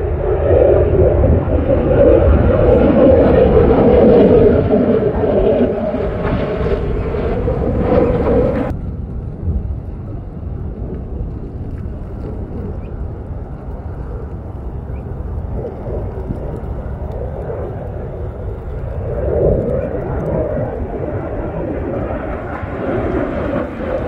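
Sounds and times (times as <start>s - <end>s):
fighter jet engine rumbling: 0.0s - 24.0s.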